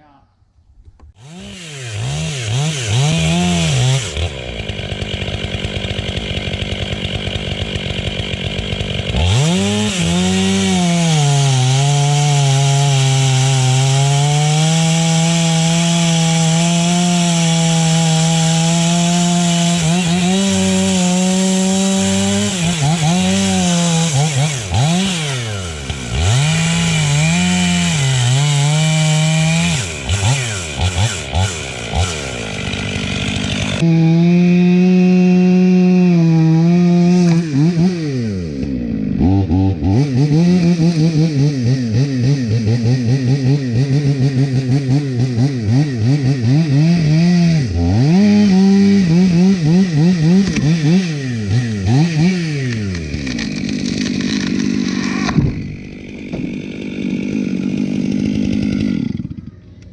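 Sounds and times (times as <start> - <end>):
chainsaw revving and cutting: 1.1 - 59.9.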